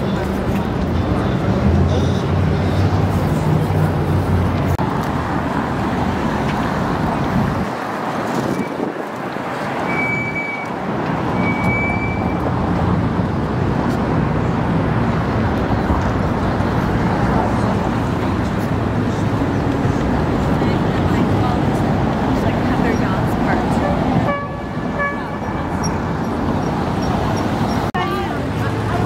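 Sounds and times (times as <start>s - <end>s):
passing cars: 0.0s - 29.0s.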